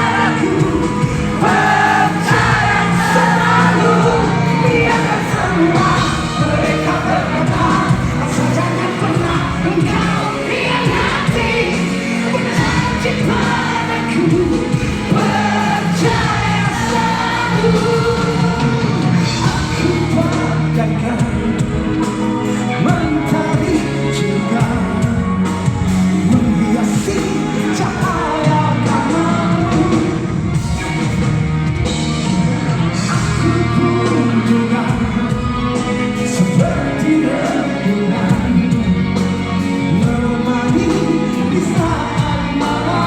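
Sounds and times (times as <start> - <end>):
live band music with singer: 0.0 - 43.0.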